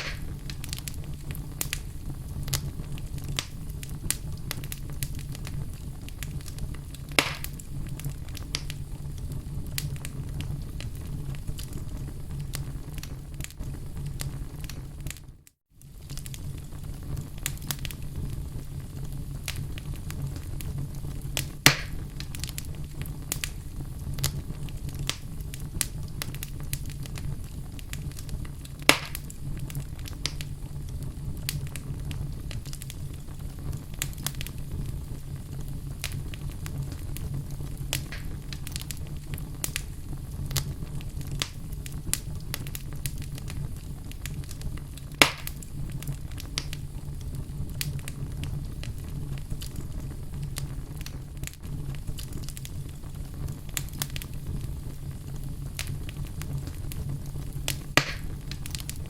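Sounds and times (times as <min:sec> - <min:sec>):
burning logs popping: 0:00.0 - 0:59.0
fire crackling: 0:00.0 - 0:59.0
wood fire rumbling: 0:00.0 - 0:59.0.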